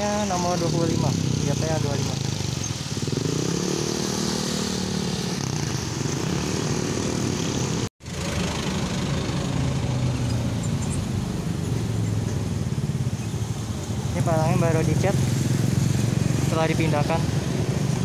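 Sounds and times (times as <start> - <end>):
motorcycle engines passing: 0.0 - 18.0
road traffic: 0.0 - 18.0.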